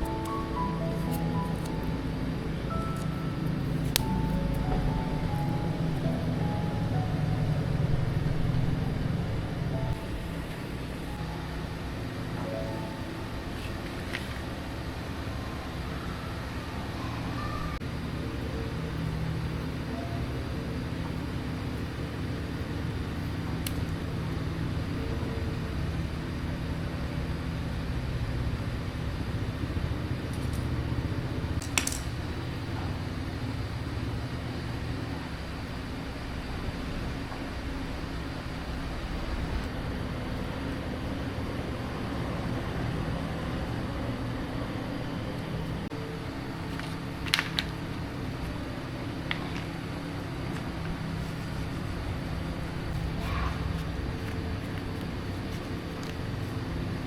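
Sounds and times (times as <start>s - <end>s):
low mechanical rumble: 0.0s - 57.0s
machine hum: 0.0s - 57.0s.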